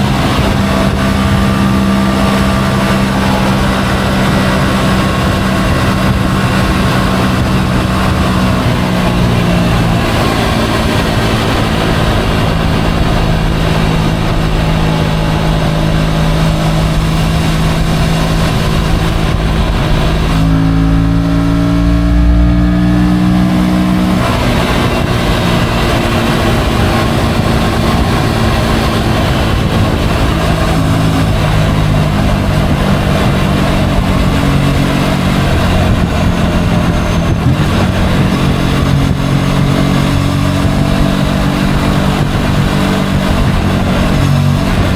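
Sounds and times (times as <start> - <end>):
motorcycle engine running: 0.0 - 44.9
wind and road rush: 0.0 - 44.9.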